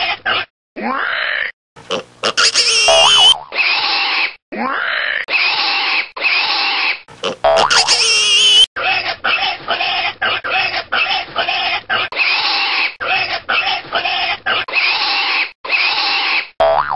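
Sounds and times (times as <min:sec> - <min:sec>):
pig grunting and oinking: 0:00.3 - 0:08.4, 0:10.2 - 0:16.2.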